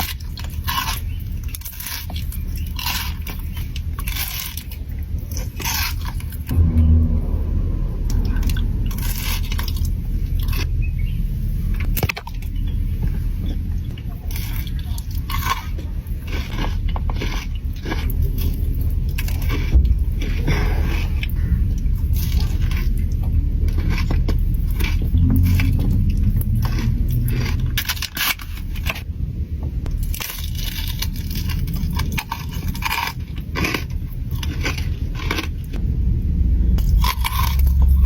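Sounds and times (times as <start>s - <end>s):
chewing and crunching chocolate: 0.0s - 6.5s, 11.7s - 29.1s, 29.8s - 35.8s, 36.8s - 38.0s
steady low rumble: 0.0s - 38.0s.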